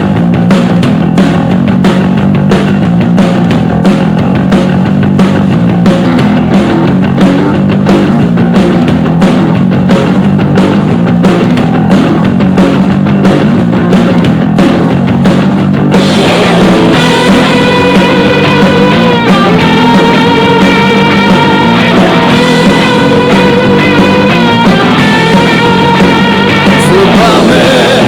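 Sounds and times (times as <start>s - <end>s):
held lead guitar notes: 0.0s - 28.0s
rock music through a speaker: 0.0s - 28.0s.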